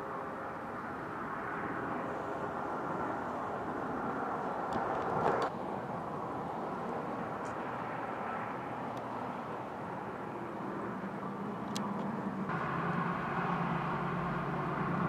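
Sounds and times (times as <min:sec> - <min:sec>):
highway traffic passing: 0:00.0 - 0:15.0.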